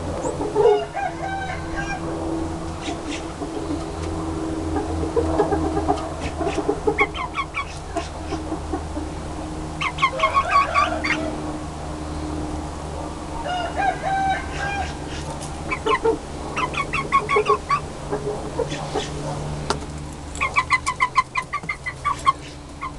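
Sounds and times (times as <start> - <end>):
chickens clucking: 0.0 - 11.4, 12.9 - 22.9
low hum: 0.0 - 22.9.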